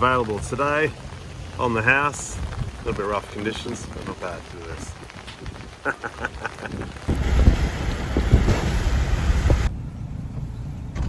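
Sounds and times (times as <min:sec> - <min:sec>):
wind buffeting microphone: 0:00.3 - 0:09.7.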